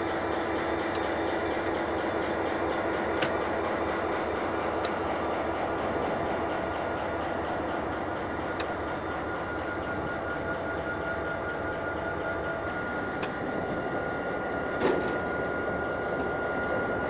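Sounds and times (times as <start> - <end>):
diesel locomotive engines whining: 0.0 - 17.0
wheels on rail: 0.0 - 17.0.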